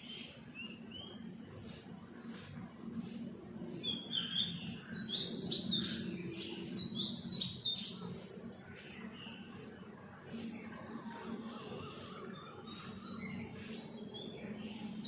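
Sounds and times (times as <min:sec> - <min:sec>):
small bird chirping: 0:00.0 - 0:01.8, 0:03.7 - 0:15.0.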